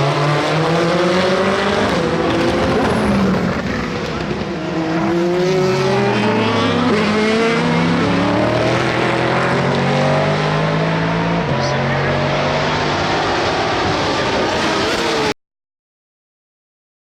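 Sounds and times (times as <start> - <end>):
racing car engines accelerating: 0.0 - 15.4.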